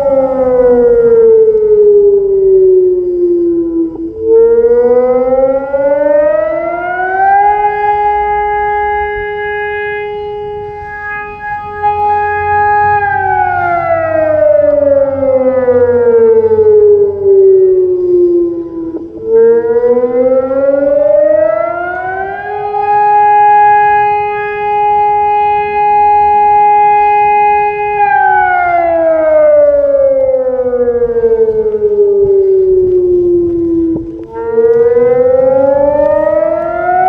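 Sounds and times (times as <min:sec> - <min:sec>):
civil defence siren wailing: 0:00.0 - 0:37.0.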